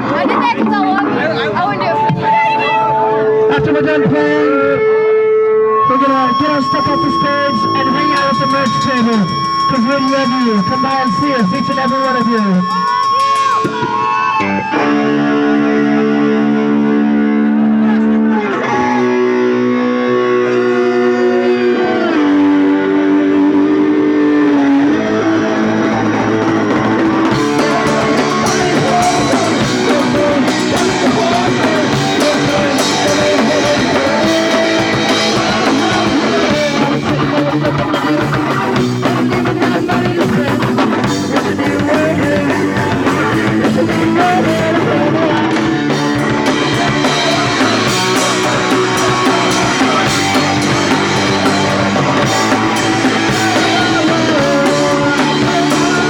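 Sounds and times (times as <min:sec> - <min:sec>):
electric guitar chords: 0:00.0 - 0:56.0
punk rock band playing: 0:00.0 - 0:56.0.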